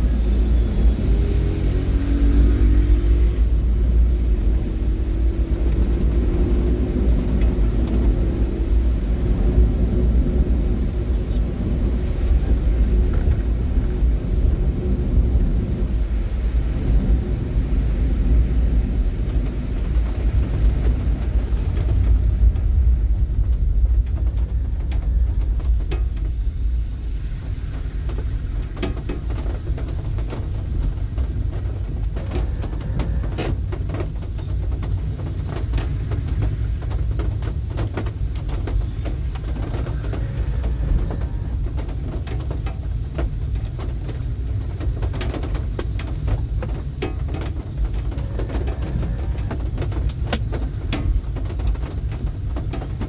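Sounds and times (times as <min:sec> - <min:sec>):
road vehicle rumble: 0:00.0 - 0:53.0.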